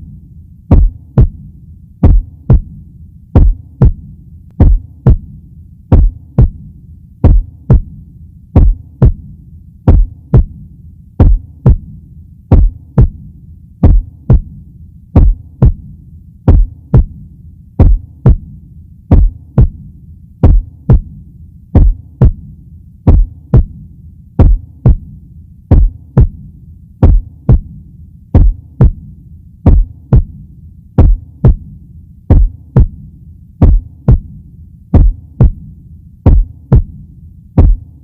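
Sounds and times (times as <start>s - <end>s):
heartbeat thumps: 0.0s - 8.0s, 8.6s - 38.0s
low hum: 0.0s - 38.0s.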